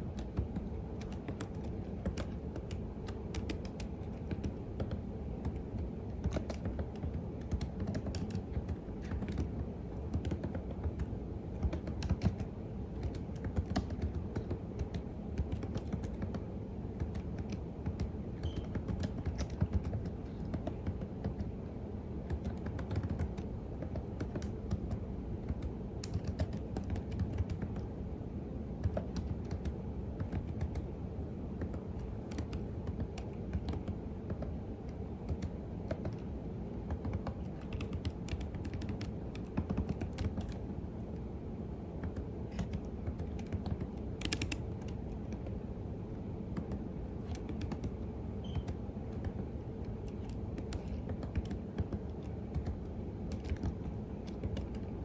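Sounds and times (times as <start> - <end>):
typing on computer keyboard: 0.0 - 21.6, 22.2 - 27.9, 28.8 - 30.9, 31.6 - 40.7, 42.0 - 45.6, 46.5 - 55.0.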